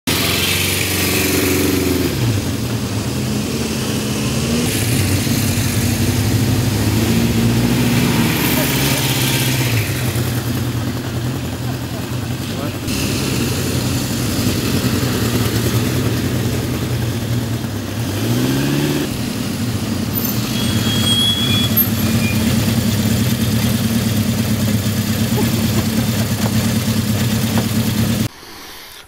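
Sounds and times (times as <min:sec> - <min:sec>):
motorcycle engines running: 0:00.1 - 0:28.3
motorcycle revving up: 0:00.1 - 0:28.3.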